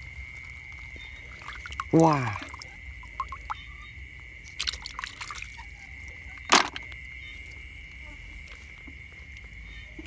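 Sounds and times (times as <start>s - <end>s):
night insects droning: 0.0s - 10.0s.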